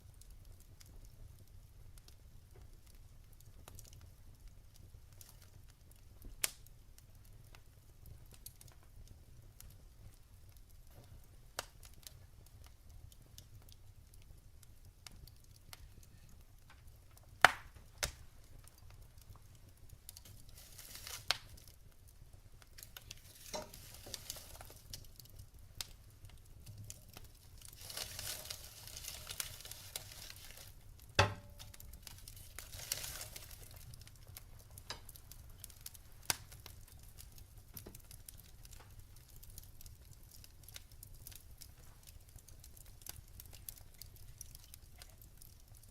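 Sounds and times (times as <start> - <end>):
fire hissing softly: 0.0 - 45.9
logs crackling and popping: 0.0 - 45.9.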